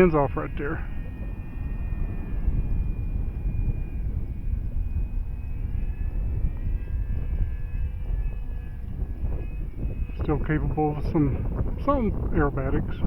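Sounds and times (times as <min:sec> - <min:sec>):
model plane electric motor whine: 0:00.0 - 0:13.0
wind buffeting microphone: 0:00.0 - 0:13.0.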